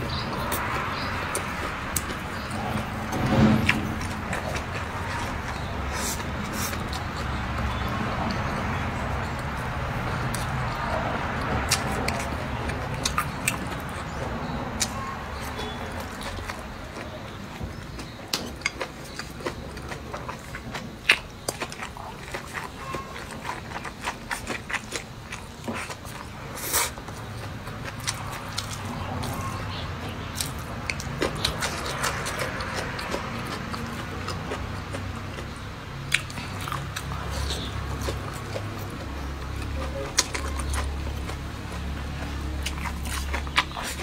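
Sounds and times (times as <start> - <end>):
biting and chewing food: 0.0 - 44.0.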